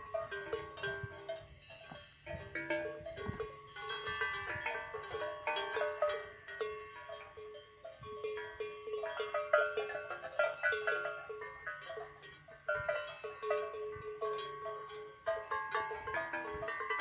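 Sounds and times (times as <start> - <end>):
cowbells clanking: 0.0 - 17.0.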